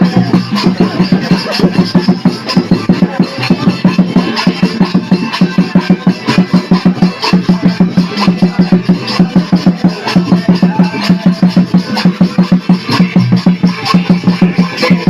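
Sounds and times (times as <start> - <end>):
fast drum beat: 0.0 - 15.0.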